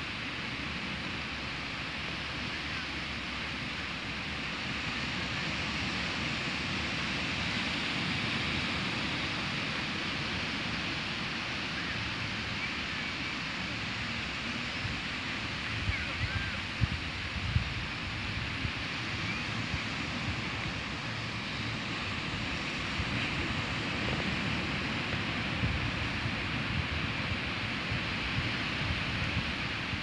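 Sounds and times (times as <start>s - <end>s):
small waves breaking on beach: 0.0s - 30.0s.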